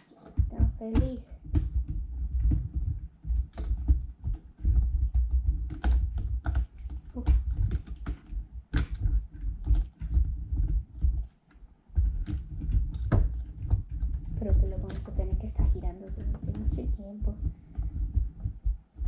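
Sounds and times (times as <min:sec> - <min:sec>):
low handling thumps: 0:00.2 - 0:19.0
plastic parts clicking and knocking: 0:00.2 - 0:19.0.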